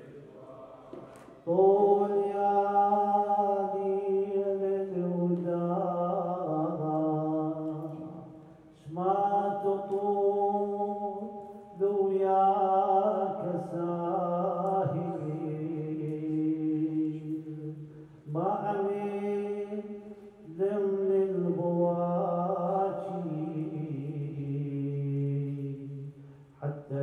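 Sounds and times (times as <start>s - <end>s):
man chanting: 0.0s - 27.0s.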